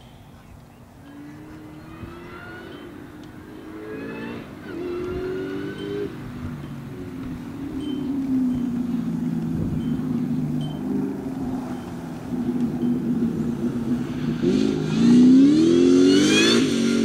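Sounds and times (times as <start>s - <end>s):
car engine revving: 1.1s - 17.0s.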